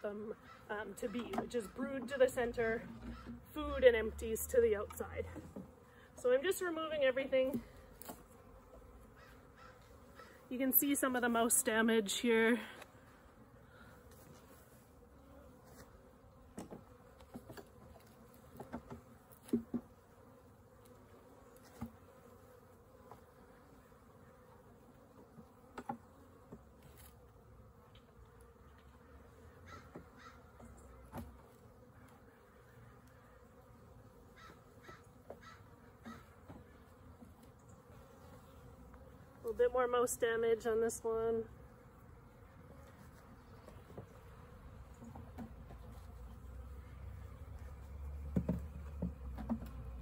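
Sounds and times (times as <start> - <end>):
honeybees buzzing: 0.0 - 50.0.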